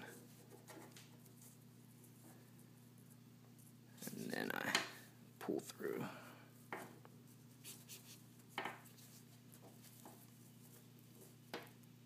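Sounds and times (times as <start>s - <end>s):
cord rubbing and rustling: 0.0s - 4.6s, 6.6s - 12.0s.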